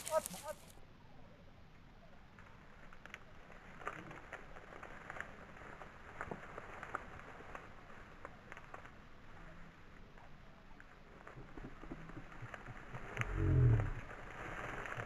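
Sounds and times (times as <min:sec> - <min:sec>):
crackling through dry vegetation: 0:00.0 - 0:15.0.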